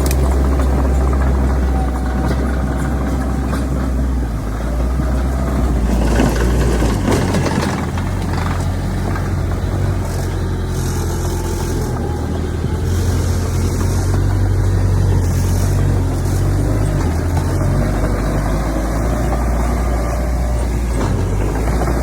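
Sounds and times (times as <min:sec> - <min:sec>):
clattering noise: 0:00.0 - 0:22.0
heavy diesel engine running: 0:00.0 - 0:22.0.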